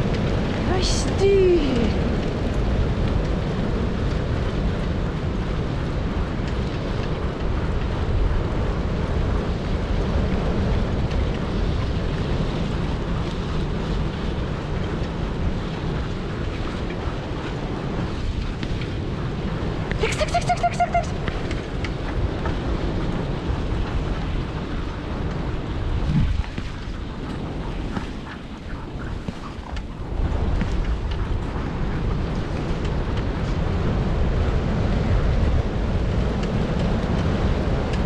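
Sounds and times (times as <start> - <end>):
wind on microphone: 0.0 - 38.0.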